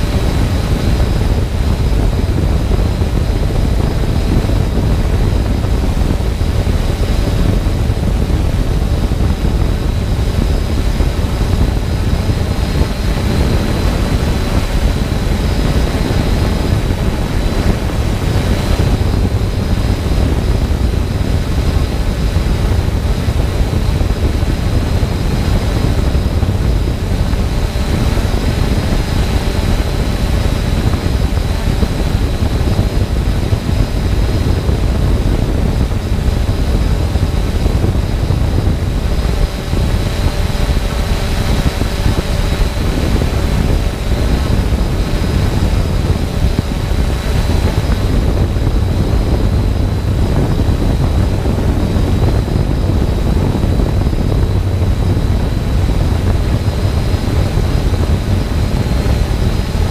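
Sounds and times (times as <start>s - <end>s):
high motor whine: 0.0s - 59.9s
propeller wash and wind buffeting: 0.0s - 59.9s.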